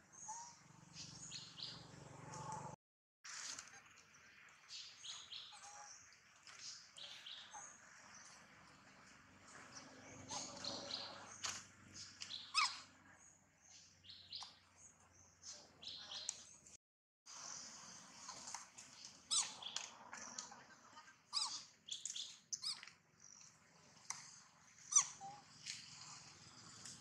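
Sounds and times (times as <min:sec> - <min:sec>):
wild birds chirping: 0:00.0 - 0:02.8, 0:03.8 - 0:16.8, 0:17.4 - 0:27.0.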